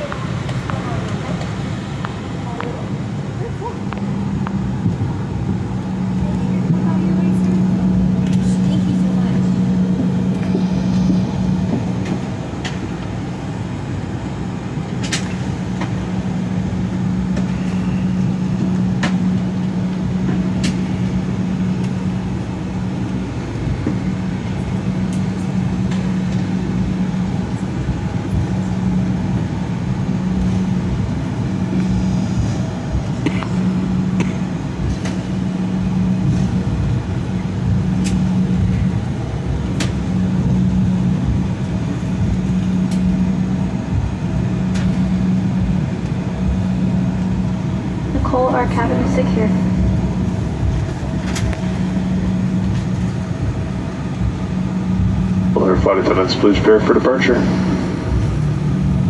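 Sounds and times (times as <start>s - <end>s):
cabin hum and engine rumble: 0.0s - 59.0s.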